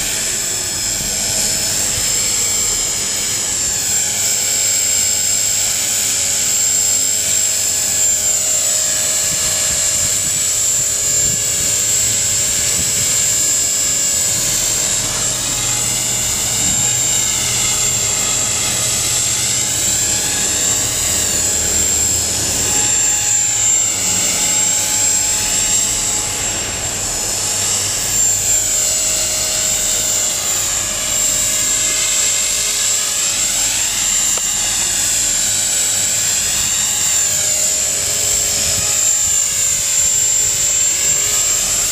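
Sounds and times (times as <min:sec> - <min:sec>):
rc helicopter high-pitched whine: 0:00.0 - 0:41.9.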